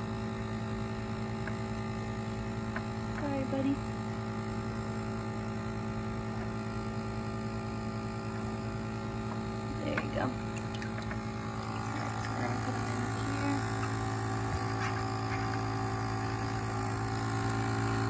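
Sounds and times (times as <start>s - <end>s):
aquarium air pump humming: 0.0s - 18.0s.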